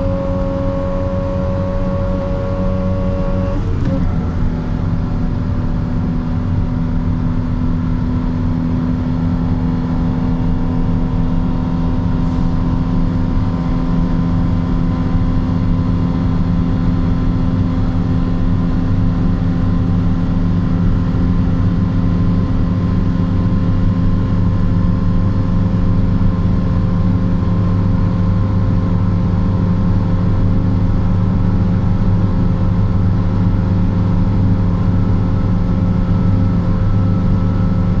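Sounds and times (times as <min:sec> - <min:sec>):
loud engine drone: 0:00.0 - 0:38.0.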